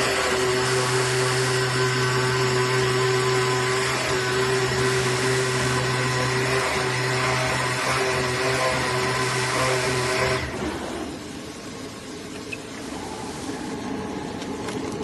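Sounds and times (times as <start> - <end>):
cnc cutting machine whirring hum: 0.0 - 15.0.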